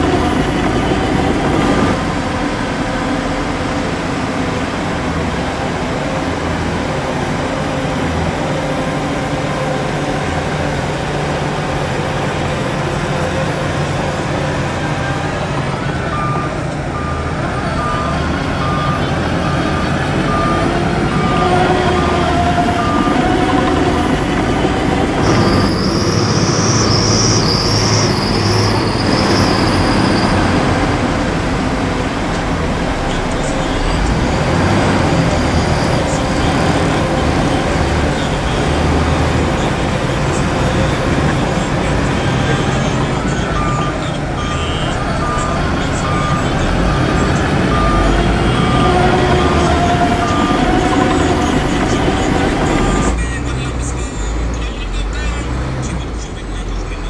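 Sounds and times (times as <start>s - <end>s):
high wavering squeal: 0.0s - 53.4s
heavy diesel machinery running: 0.0s - 57.0s
reversing alarm beeping: 0.0s - 57.0s.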